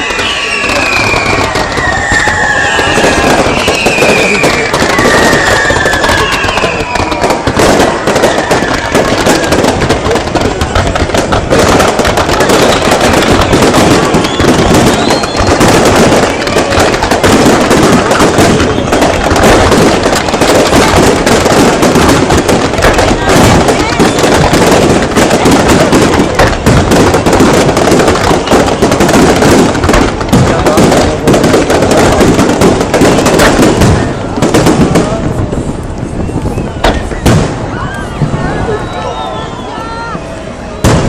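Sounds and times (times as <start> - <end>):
fireworks crackling and banging: 0.0 - 41.0
fireworks whistles: 0.0 - 41.0.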